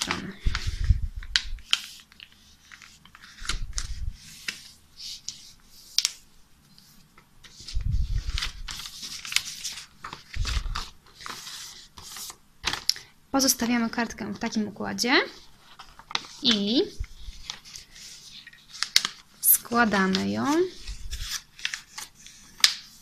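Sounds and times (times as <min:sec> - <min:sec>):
paper rustling and creasing: 0:00.0 - 0:14.7, 0:15.3 - 0:23.0.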